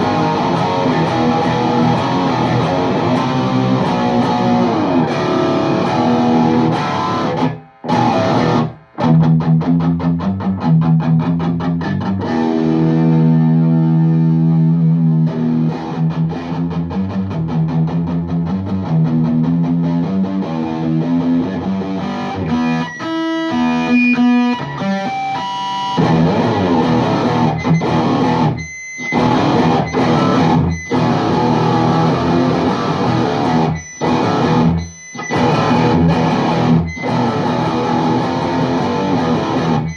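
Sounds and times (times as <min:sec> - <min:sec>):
distorted electric guitar riffs: 0:00.0 - 0:39.9.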